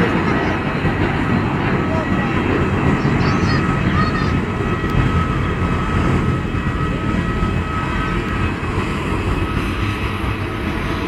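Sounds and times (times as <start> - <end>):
jet engine rumble with whine: 0.0 - 11.0.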